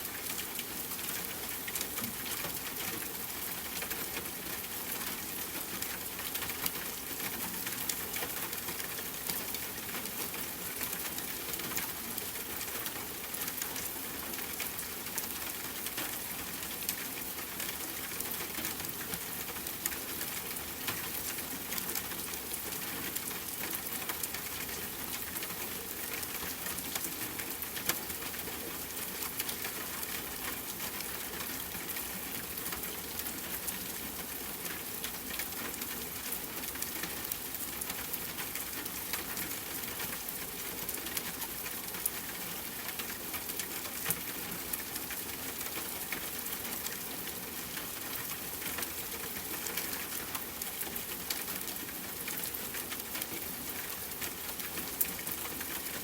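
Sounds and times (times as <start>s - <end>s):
rain falling on a tent: 0.0s - 56.0s.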